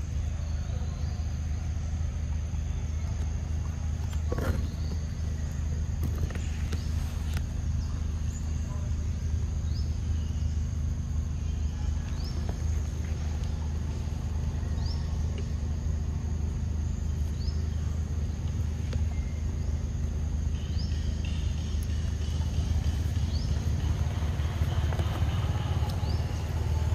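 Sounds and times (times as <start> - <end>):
high insect drone: 0.0 - 26.9
rising bird chirp: 0.0 - 26.9.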